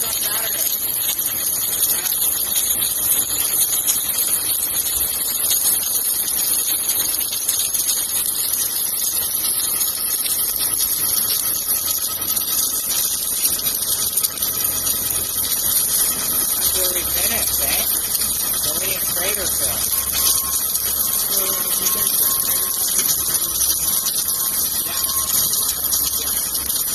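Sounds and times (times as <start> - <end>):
machine noise: 0.0 - 26.9
welding hiss: 0.0 - 26.9.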